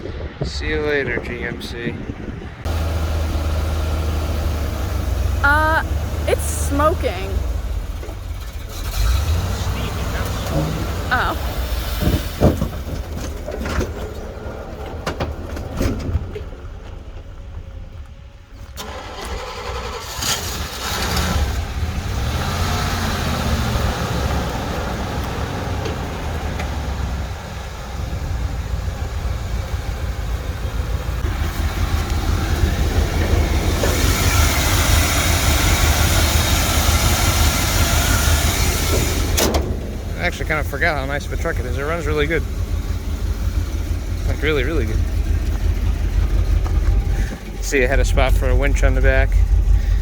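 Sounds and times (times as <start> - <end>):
truck engine starting and running: 1.0 - 50.0.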